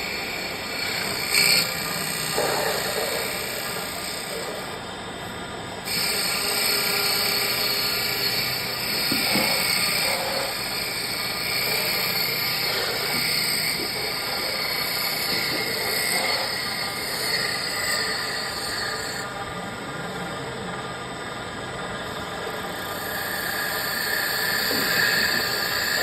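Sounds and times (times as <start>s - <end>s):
cutter working wood: 0.0s - 5.0s, 5.8s - 19.4s, 22.6s - 26.0s
machine mechanical whine: 0.0s - 26.0s.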